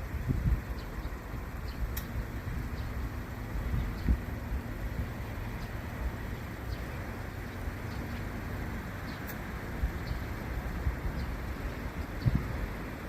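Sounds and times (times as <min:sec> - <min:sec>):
wind gusts on microphone: 0:00.0 - 0:07.2, 0:07.8 - 0:13.0.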